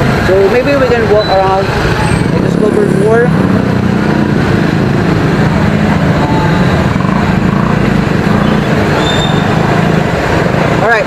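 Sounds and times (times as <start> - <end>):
street traffic: 0.0 - 11.0
vehicle engine running: 0.0 - 11.0.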